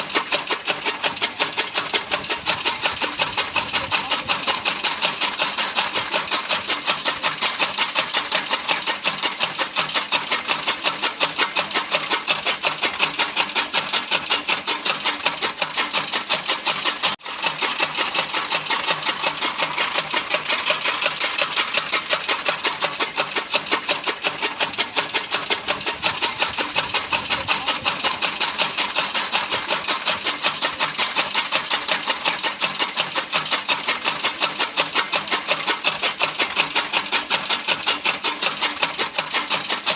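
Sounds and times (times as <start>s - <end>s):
chaff cutter running rhythmically: 0.0s - 39.9s.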